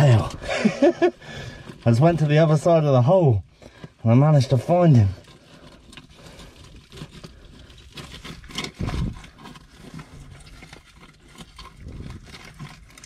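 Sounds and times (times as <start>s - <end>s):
hand scraping in wet crevice: 0.0s - 13.0s.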